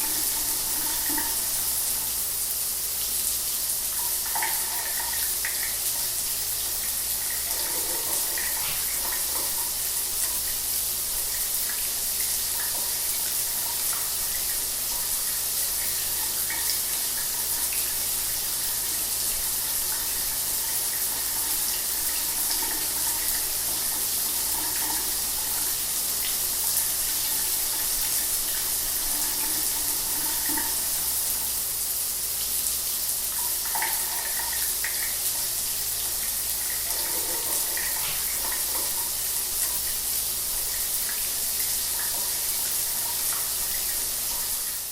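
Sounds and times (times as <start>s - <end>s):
shower water running: 0.0s - 44.9s.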